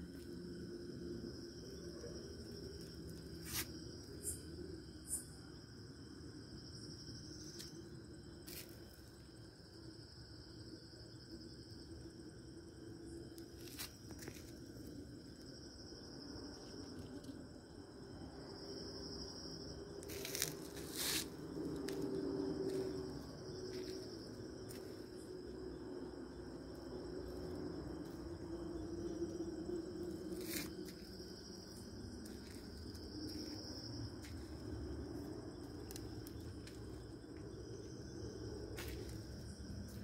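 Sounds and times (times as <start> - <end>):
night insects chorus: 0.0 - 40.0.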